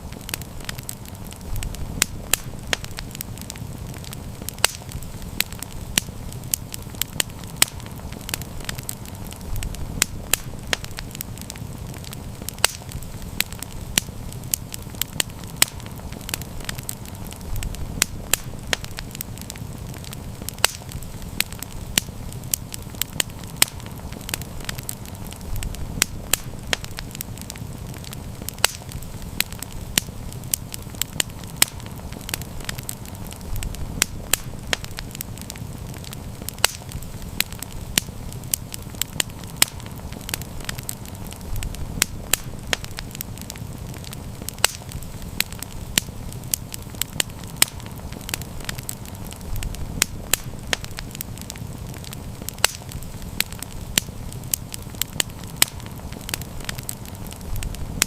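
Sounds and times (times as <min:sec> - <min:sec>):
low rumble of flames: 0:00.0 - 0:58.0
wood crackling and popping: 0:00.0 - 0:58.0.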